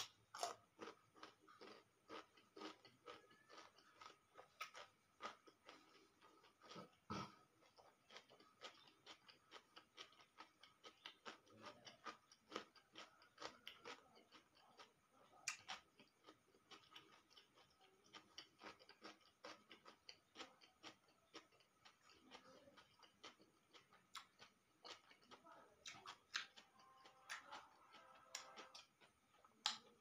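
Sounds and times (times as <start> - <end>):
mouth chewing: 0.0 - 30.0.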